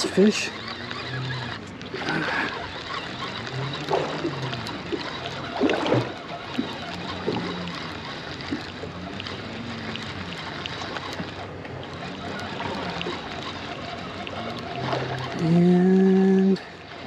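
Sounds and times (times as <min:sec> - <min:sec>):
water lapping against boat hull: 0:00.0 - 0:17.0
wind and sea noise: 0:00.0 - 0:17.0.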